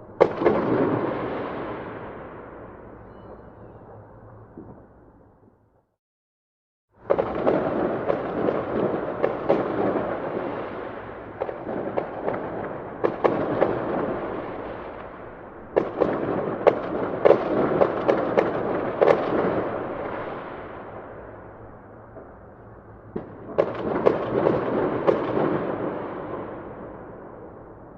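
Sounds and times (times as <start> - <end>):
fireworks crackling and banging: 0.0 - 5.6, 7.0 - 27.9.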